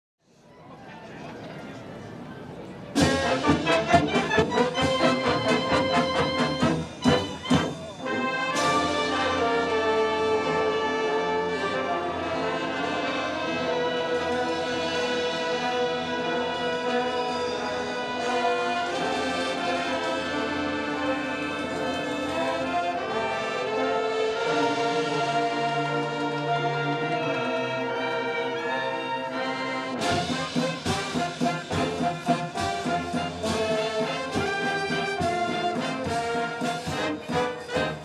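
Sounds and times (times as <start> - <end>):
brass band playing: 2.9 - 38.0.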